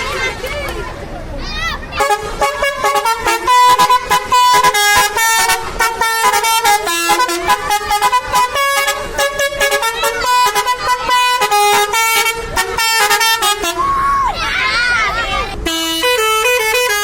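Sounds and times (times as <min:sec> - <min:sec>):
multi-tone bus horn tune: 0:02.0 - 0:14.3, 0:15.4 - 0:17.0.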